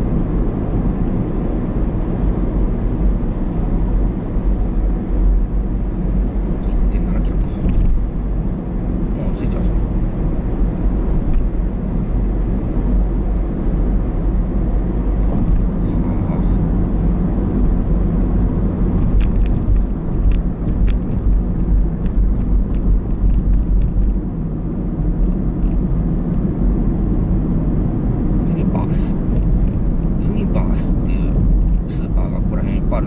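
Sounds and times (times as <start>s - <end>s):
car interior road rumble: 0.0s - 33.0s.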